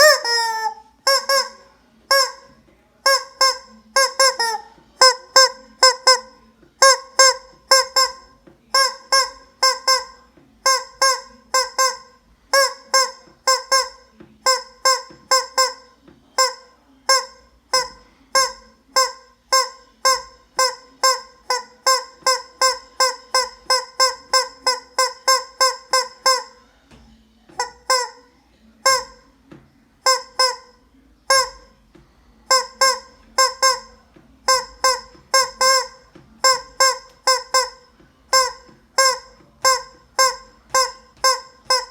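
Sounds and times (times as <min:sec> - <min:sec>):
rubber squeeze toy squawking: 0:00.0 - 0:26.6, 0:27.5 - 0:29.3, 0:30.0 - 0:31.8, 0:32.5 - 0:41.9.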